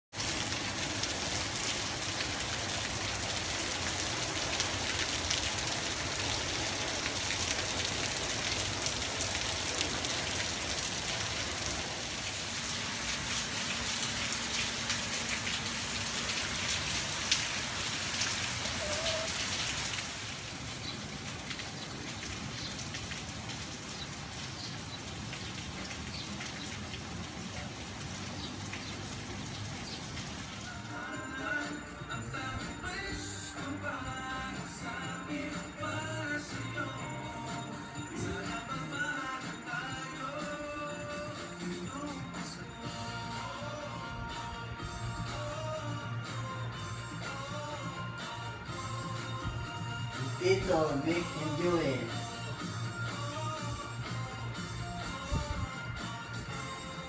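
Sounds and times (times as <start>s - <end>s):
rain on a paved street: 0.1s - 57.0s.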